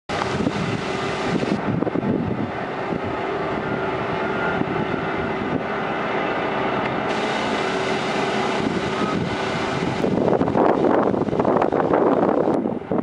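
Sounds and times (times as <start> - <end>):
compaction machine engine drone: 0.1 - 12.6.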